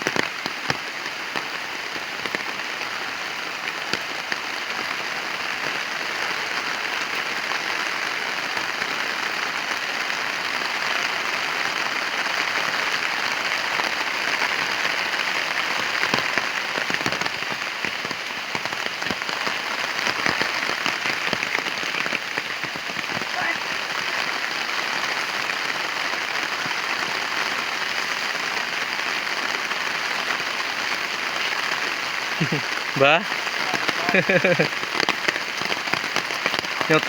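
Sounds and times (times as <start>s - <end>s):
heavy rain falling: 0.0s - 37.0s
rain drop impacts: 0.0s - 37.0s.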